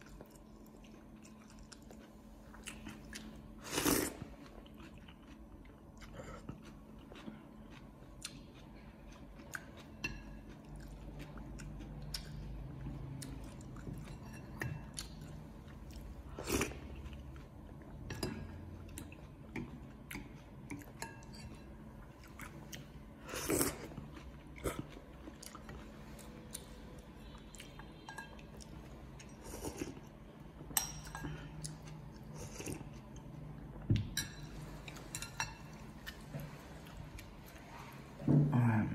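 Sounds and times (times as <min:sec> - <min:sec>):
person chewing: 0:00.0 - 0:38.0.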